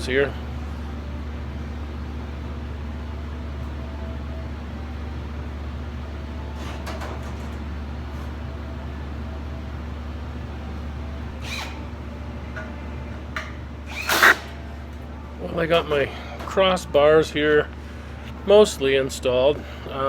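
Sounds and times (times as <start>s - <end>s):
shop machinery humming: 0.0s - 20.0s.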